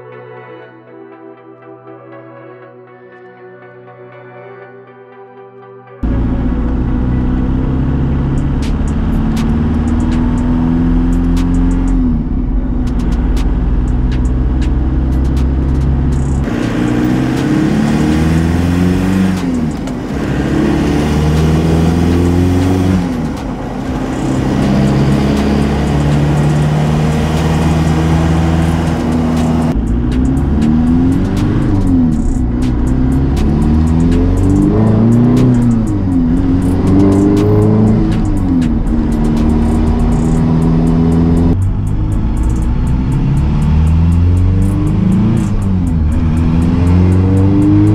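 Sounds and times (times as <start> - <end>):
car engine accelerating through gears: 6.0 - 47.9.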